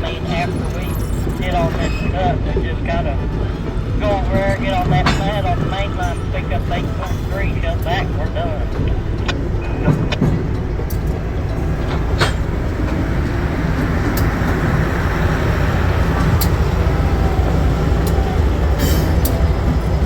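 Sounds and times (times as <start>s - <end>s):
diesel locomotive rumbling: 0.0s - 20.0s.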